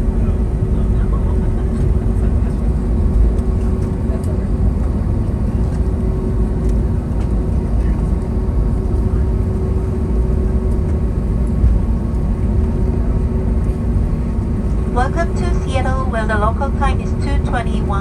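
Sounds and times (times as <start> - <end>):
aircraft cabin rumble and hum: 0.0 - 18.0.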